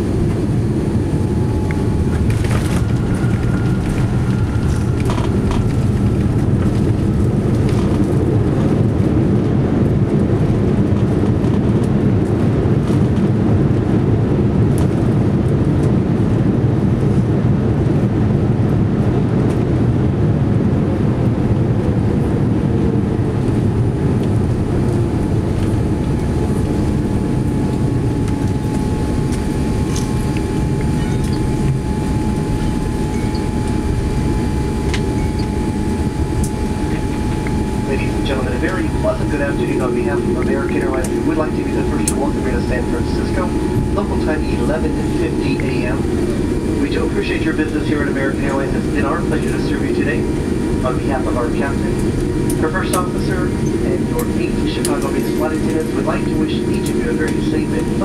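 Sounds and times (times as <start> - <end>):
aircraft cabin low rumble: 0.0 - 58.0.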